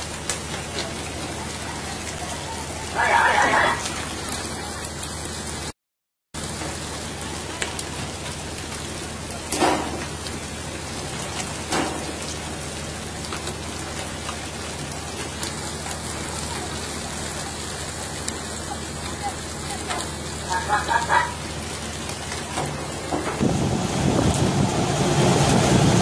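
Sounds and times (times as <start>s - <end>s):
water spraying along boat hull: 0.0s - 5.7s, 6.4s - 26.0s.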